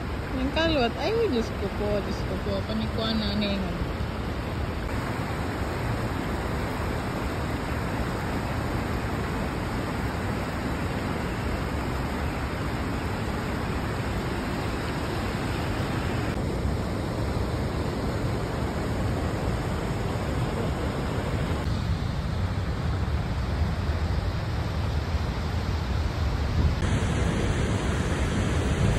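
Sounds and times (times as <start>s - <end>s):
river water rushing over rapids: 0.0s - 28.9s.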